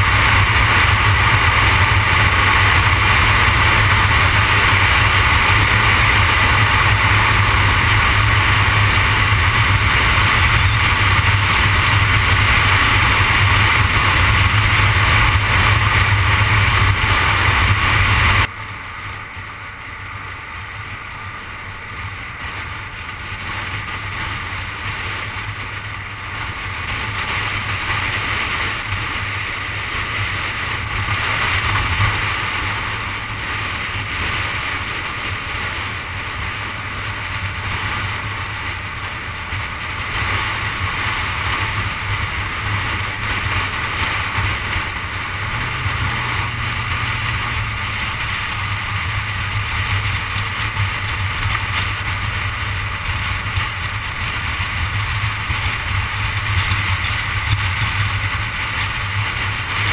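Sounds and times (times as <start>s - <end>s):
tyre and wind noise: 0.0s - 18.6s, 21.8s - 59.9s
low hum: 0.0s - 59.9s.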